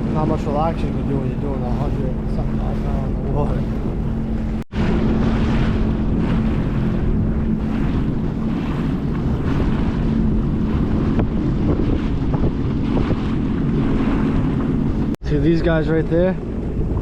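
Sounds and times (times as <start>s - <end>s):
jet ski engine: 0.0s - 17.0s
water rushing: 0.0s - 17.0s
wind on microphone: 0.0s - 17.0s.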